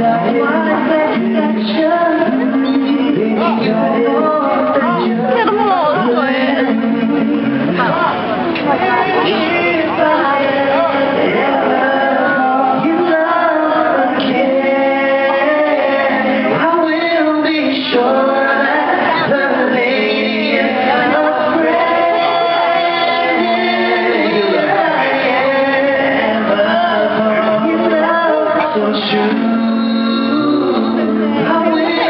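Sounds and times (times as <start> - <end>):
group singing with music: 0.0 - 32.0.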